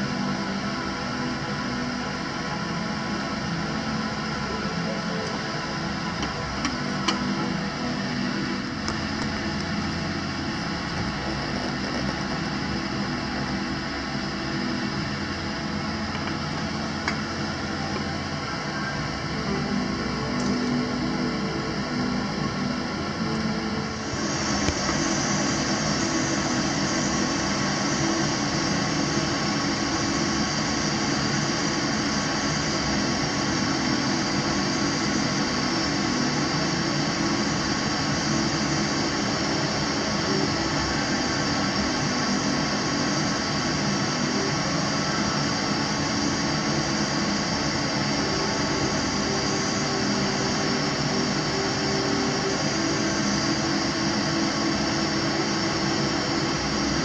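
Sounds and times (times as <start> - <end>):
gas burner flame: 0.0 - 57.0.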